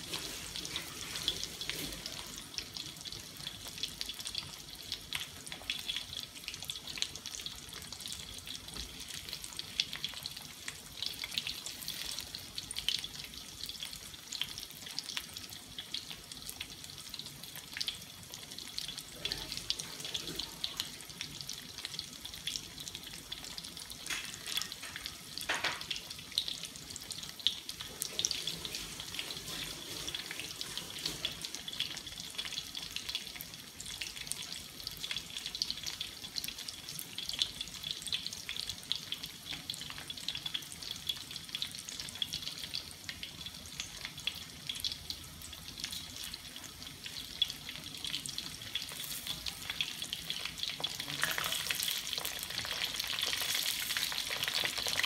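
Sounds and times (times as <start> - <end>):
chicken deep-frying in oil: 0.0 - 55.0.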